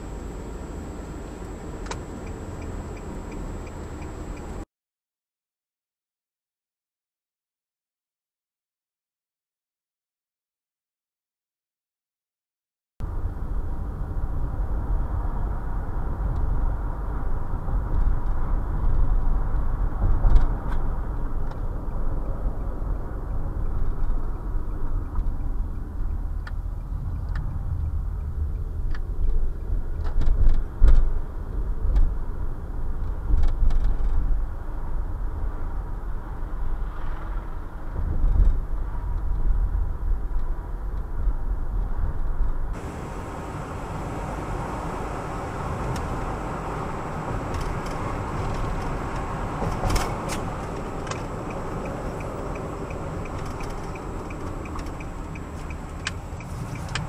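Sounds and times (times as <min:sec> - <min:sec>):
car road and engine rumble: 0:00.0 - 0:04.7, 0:13.0 - 0:57.0.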